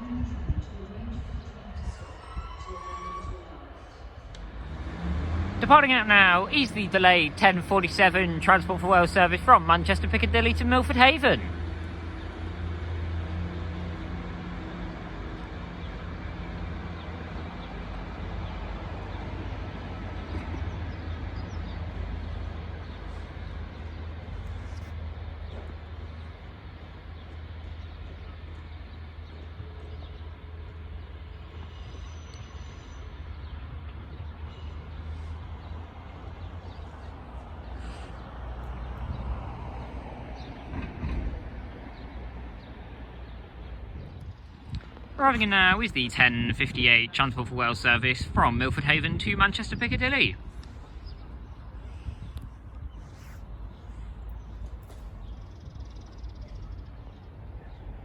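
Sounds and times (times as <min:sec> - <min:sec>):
diesel railcar engines rumbling: 0:00.0 - 0:58.0
rail noise: 0:00.0 - 0:58.0.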